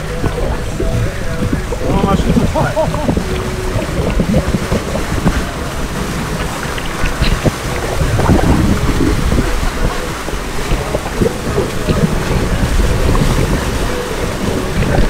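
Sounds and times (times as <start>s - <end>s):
short splashes: 0.0s - 15.0s
water rushing and splashing: 0.0s - 15.0s
wind buffeting microphone: 0.0s - 15.0s.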